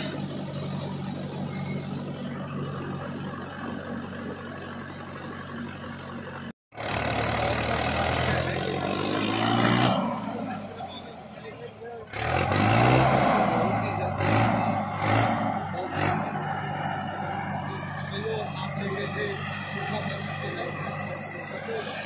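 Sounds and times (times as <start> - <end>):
tractor diesel engine running: 0.0 - 9.1, 13.4 - 22.0.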